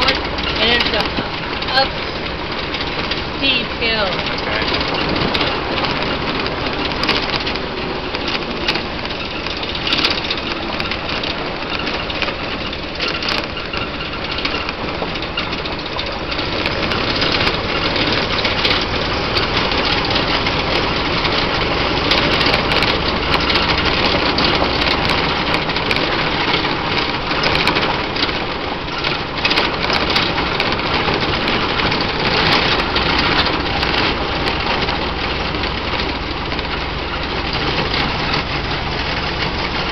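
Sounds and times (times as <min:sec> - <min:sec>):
gravel crunching under tyres: 0:00.0 - 0:39.9
old car engine running: 0:00.0 - 0:39.9
small clicks and rattles: 0:00.0 - 0:39.9.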